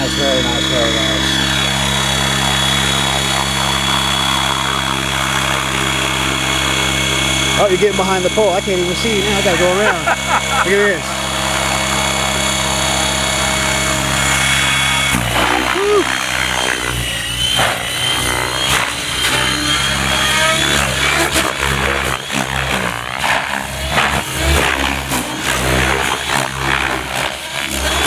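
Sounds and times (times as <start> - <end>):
model helicopter whine: 0.0 - 28.0.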